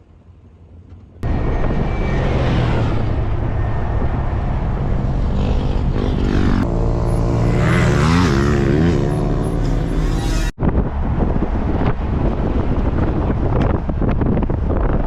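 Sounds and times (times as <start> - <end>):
off-road vehicle engine running hard: 1.2 - 15.0.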